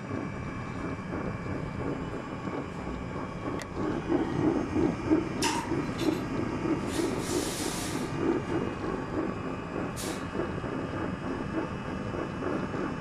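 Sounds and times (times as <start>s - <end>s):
heater burner throbbing: 0.0s - 13.0s.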